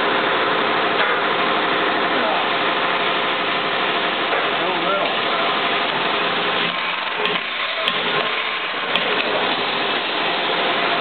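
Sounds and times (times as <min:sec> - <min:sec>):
milling machine drone: 0:00.0 - 0:11.0.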